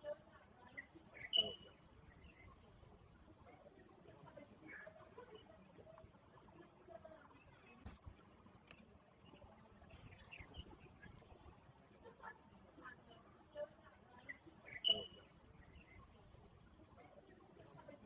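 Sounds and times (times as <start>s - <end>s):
faint distant sounds: 0.0s - 18.0s.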